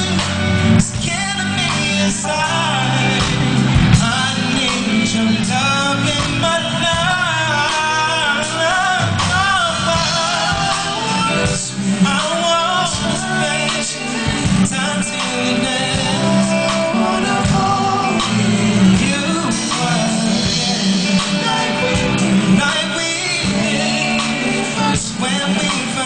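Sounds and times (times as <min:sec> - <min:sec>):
band playing bass and keyboard: 0:00.0 - 0:26.0
man singing: 0:00.0 - 0:26.0.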